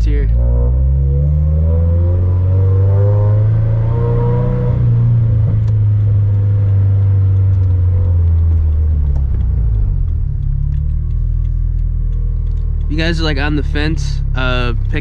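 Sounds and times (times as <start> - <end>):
car engine under load: 0.0 - 15.0
deep exhaust drone: 0.0 - 15.0.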